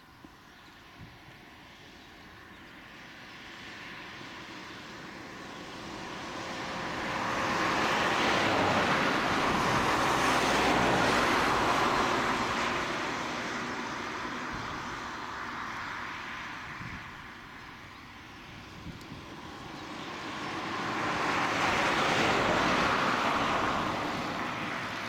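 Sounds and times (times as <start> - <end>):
jet aircraft landing: 2.9 - 25.0.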